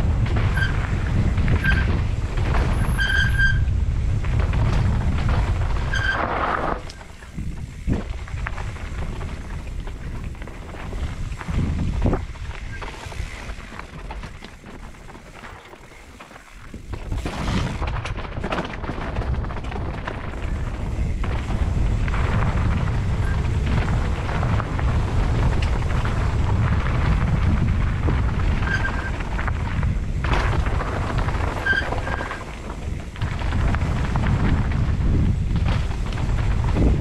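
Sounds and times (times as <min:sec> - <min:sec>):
bike knocking and rattling: 0:00.0 - 0:37.0
wind rumble on microphone: 0:00.0 - 0:37.0
tyres crunching over gravel: 0:03.7 - 0:37.0.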